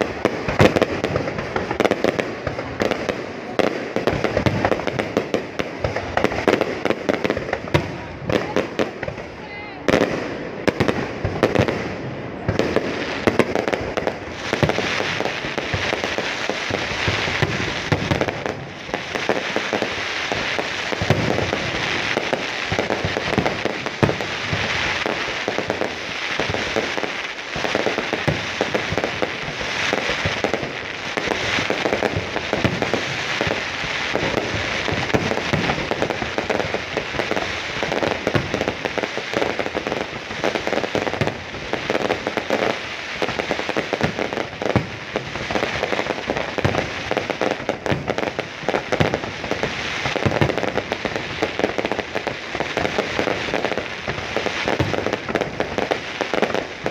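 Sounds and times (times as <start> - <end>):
fireworks bursting and crackling: 0.0 - 56.9.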